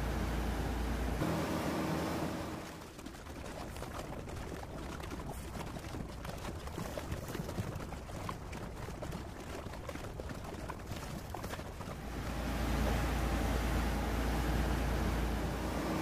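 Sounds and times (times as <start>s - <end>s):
water splashing: 1.8s - 16.0s.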